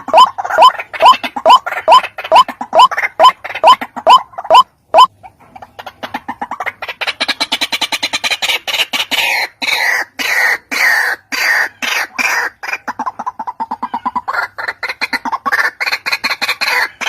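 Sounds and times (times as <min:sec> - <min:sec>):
harsh croaking calls: 0:00.0 - 0:17.0
waterhen sharp rising calls: 0:00.0 - 0:17.0.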